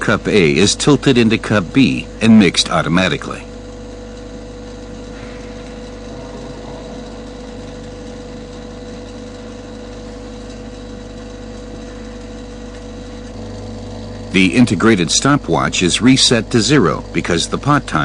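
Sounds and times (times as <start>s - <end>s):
constant mid-pitched tone: 0.0s - 13.6s, 14.3s - 18.0s
machine humming: 0.0s - 18.0s.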